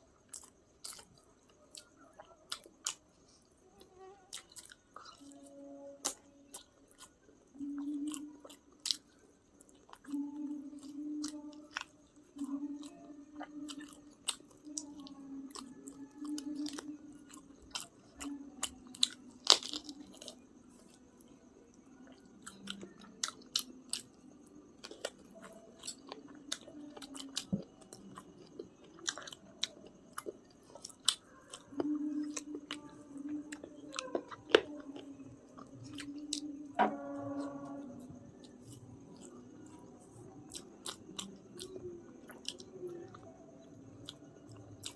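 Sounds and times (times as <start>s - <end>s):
person chewing food: 0.0s - 3.6s, 4.3s - 44.9s.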